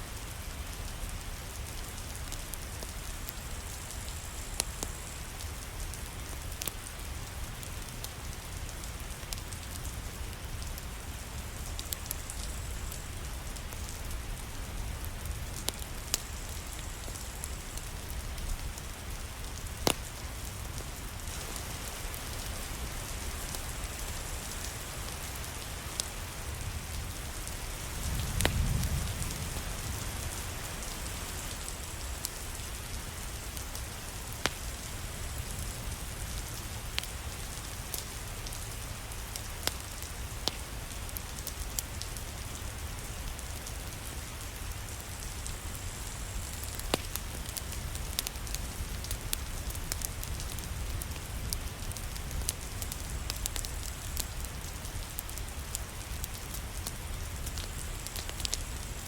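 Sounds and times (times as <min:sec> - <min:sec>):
steady rain: 0:00.0 - 0:59.0
wood fire crackling and popping: 0:00.2 - 0:59.0.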